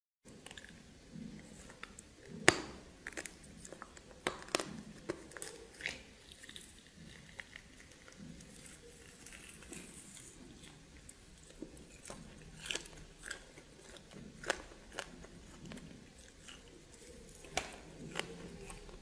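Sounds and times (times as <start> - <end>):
close-miked chewing with crunches: 0.3 - 19.0.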